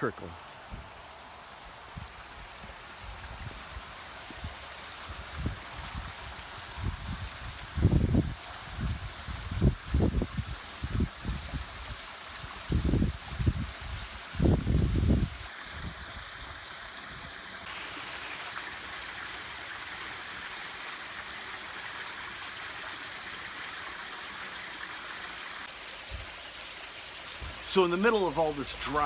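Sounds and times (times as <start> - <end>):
stream trickling over rock: 0.0 - 29.0.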